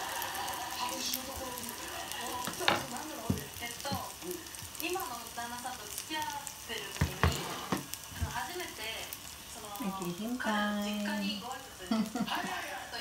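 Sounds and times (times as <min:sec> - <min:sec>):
batter sizzling on hot plate: 0:00.0 - 0:13.0.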